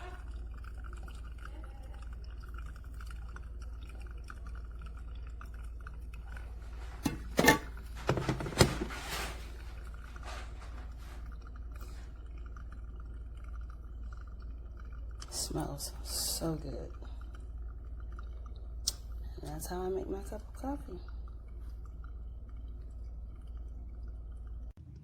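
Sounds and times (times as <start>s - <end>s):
steady low hum: 0.0s - 24.8s.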